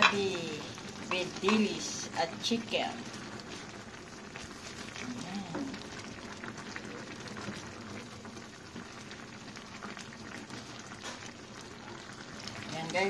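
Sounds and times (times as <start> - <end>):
stew bubbling in a metal pot: 0.0 - 13.0.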